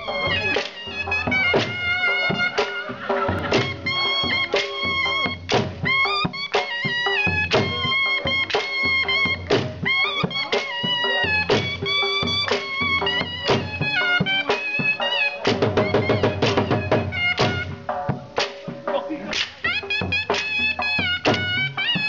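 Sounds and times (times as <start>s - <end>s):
dhol drum strokes: 0.0s - 22.0s
reed pipe melody: 0.0s - 22.0s.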